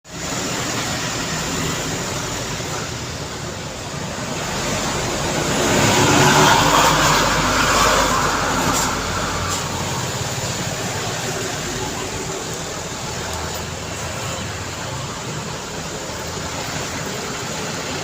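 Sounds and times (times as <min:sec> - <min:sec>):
heavy road traffic rumble: 0:00.0 - 0:18.0
large vehicle passing close: 0:00.2 - 0:18.0.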